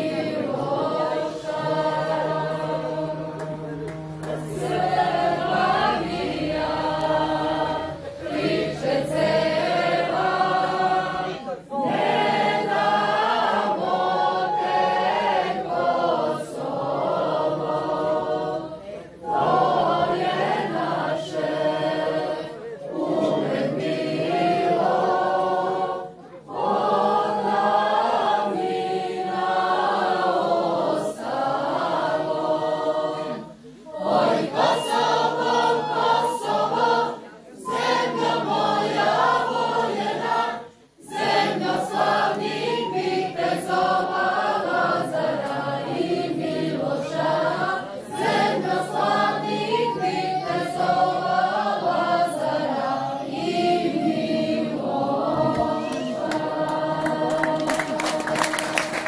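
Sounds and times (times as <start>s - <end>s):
voices singing unaccompanied: 0.0s - 59.0s.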